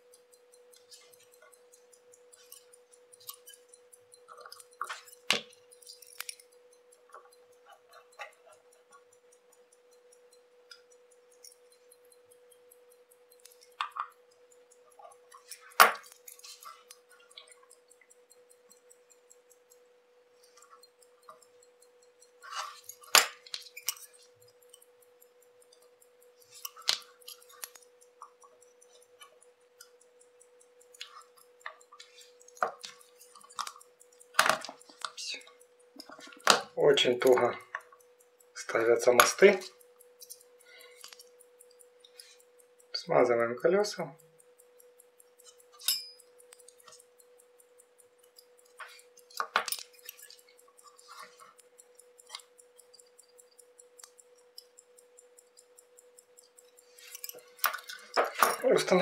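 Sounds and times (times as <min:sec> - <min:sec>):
faint steady hum: 0:00.0 - 0:59.0
tweezers clicking on metal: 0:00.0 - 0:59.0.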